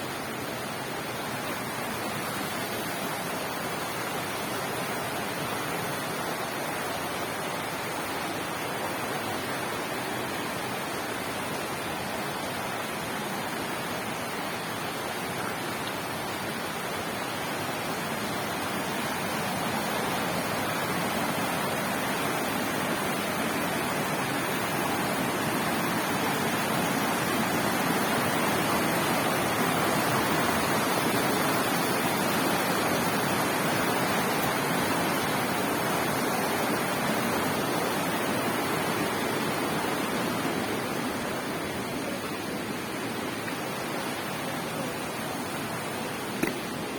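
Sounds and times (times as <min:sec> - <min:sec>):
mountain stream rushing: 0:00.0 - 0:46.9.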